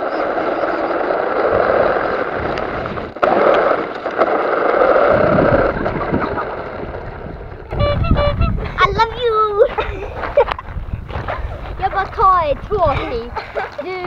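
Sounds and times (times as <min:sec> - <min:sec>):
rc car tyres crunching on gravel: 0:00.0 - 0:08.0, 0:09.6 - 0:13.1.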